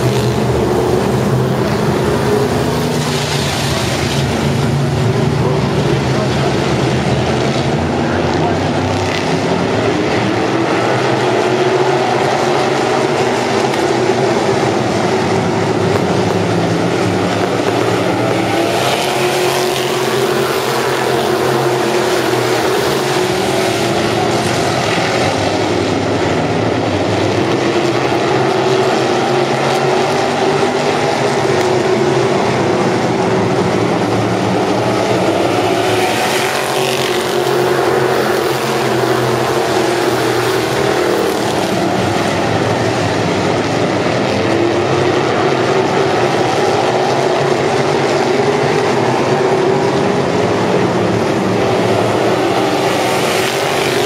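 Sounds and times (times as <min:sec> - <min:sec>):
race car engines running hard: 0:00.0 - 0:54.0.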